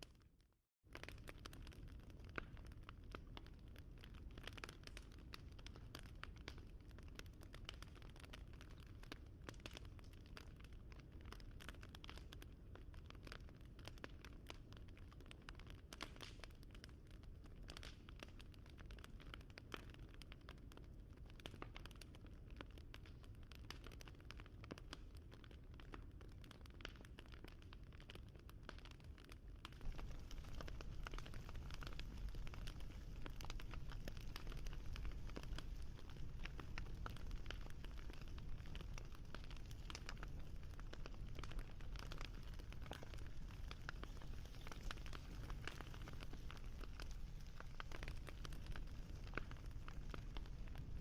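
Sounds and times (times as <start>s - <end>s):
wood fire crackling: 0.9s - 51.0s.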